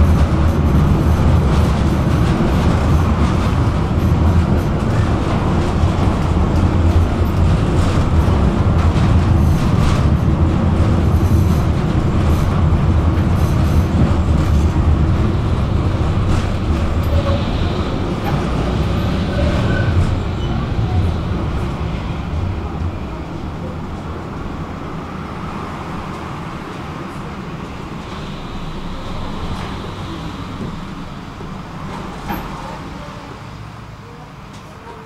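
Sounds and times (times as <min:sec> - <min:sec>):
tram wheels rumbling on rails: 0:00.0 - 0:35.0.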